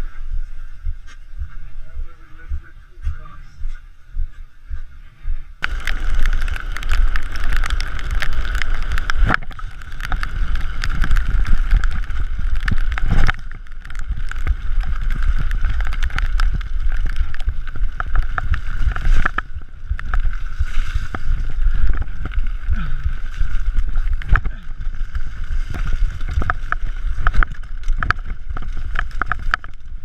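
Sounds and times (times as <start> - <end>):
bike tyre roar on gravel: 0.0 - 2.7, 5.6 - 30.0
wind buffeting microphone: 0.0 - 30.0
stones and bike parts clattering: 5.6 - 30.0.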